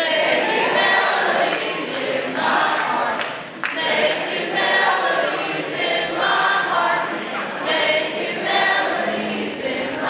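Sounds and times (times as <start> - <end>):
group of voices singing: 0.0 - 10.0.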